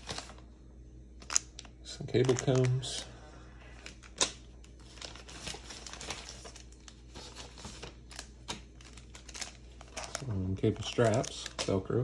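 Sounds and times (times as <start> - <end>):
plastic bag crinkling: 1.2 - 3.1, 3.7 - 12.0.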